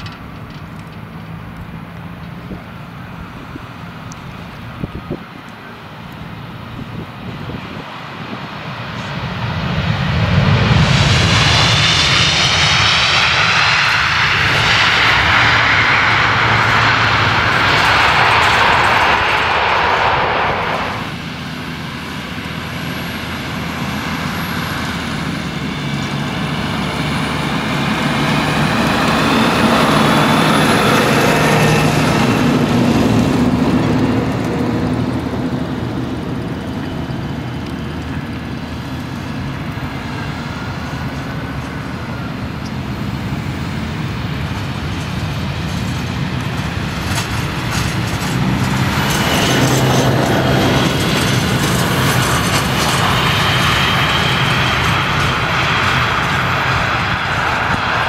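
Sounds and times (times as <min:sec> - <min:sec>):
faint high engine whine: 0:00.0 - 0:58.0
jet engine roar: 0:00.0 - 0:58.0.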